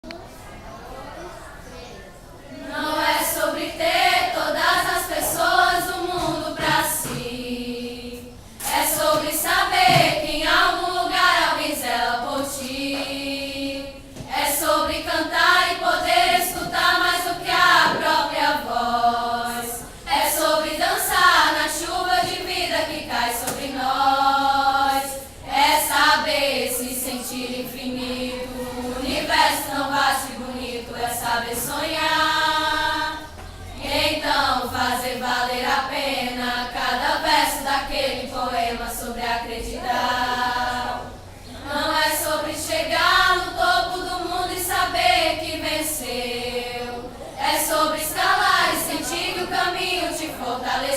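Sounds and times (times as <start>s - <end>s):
vocal group singing in harmony: 2.5s - 50.9s.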